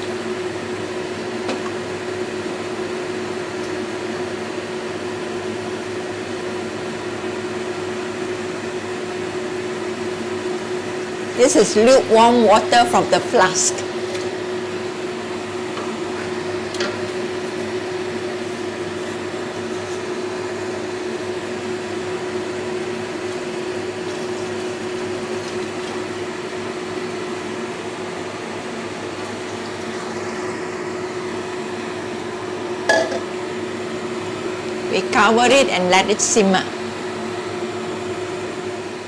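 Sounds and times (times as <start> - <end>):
steady mechanical hum: 0.0 - 39.0.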